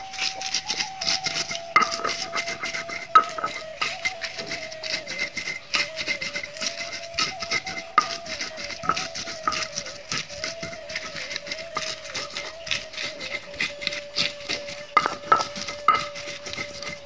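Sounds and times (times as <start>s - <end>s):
steady high tone: 0.0s - 17.0s
stone grinding on stone: 0.0s - 17.0s.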